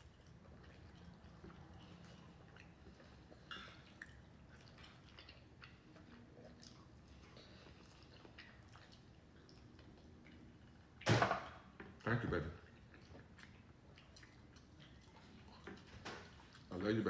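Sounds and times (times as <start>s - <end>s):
soft chewing: 0.0s - 11.0s, 11.6s - 17.0s.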